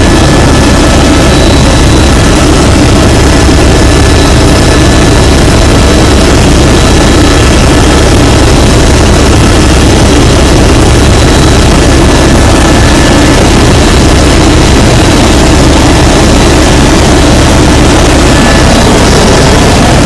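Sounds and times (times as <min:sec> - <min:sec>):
helicopter engine and rotor noise: 0:00.0 - 0:20.0
high-pitched whine: 0:00.0 - 0:20.0.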